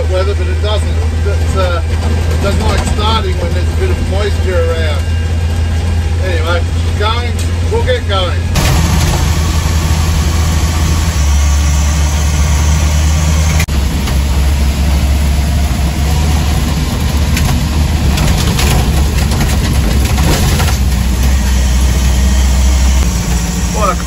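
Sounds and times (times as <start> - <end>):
car engine drone from inside: 0.0 - 24.0.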